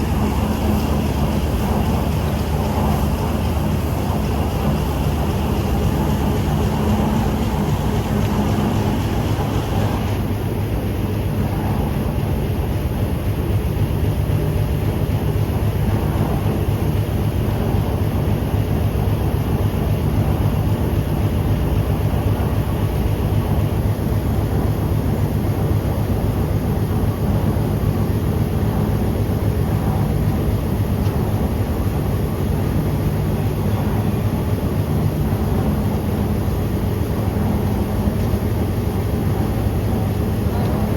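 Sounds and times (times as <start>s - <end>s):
diesel train engine drone: 0.0s - 40.9s
rushing noise: 0.0s - 40.9s.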